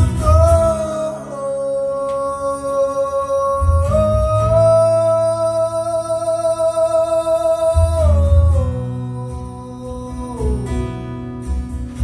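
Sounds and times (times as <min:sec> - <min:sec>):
man singing high note: 0:00.0 - 0:10.8
strummed acoustic guitar: 0:00.0 - 0:12.0.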